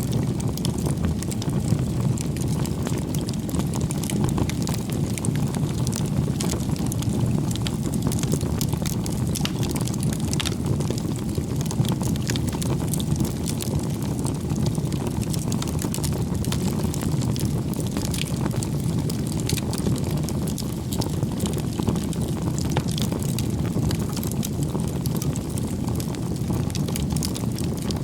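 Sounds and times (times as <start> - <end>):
rumble of flames: 0.0 - 28.0
wood crackling and popping: 0.0 - 28.0.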